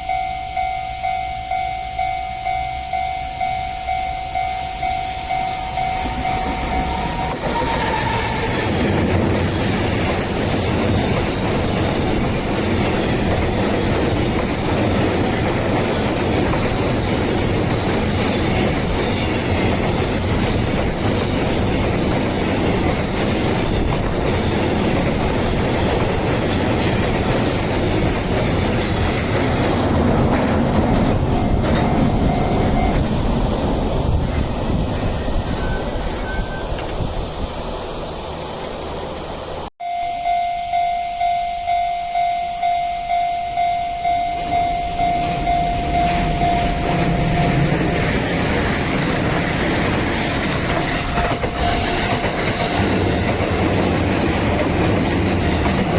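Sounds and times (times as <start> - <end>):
train wheels clattering on rails: 3.0 - 39.0, 44.4 - 55.9.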